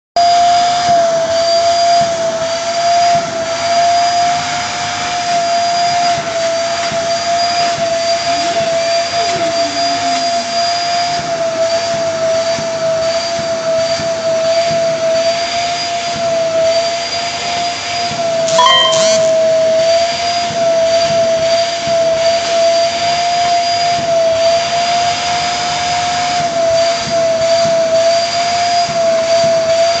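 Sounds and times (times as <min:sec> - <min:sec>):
vacuum cleaner whining: 0:00.2 - 0:18.6, 0:20.6 - 0:30.0.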